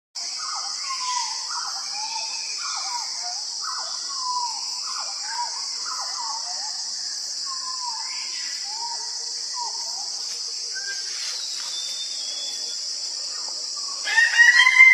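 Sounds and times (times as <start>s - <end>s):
insects droning: 0.2s - 14.9s.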